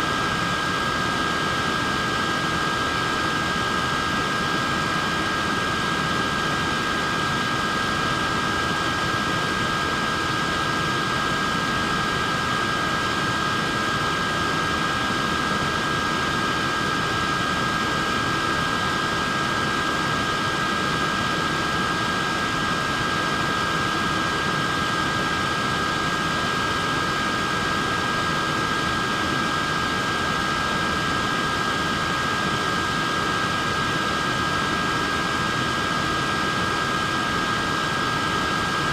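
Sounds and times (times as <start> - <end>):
high-pitched motor whine: 0.0 - 38.9.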